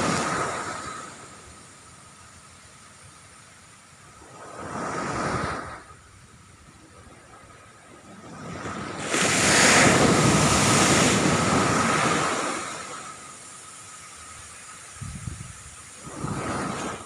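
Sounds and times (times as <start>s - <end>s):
ocean waves breaking on beach: 0.0s - 2.4s, 3.8s - 17.0s.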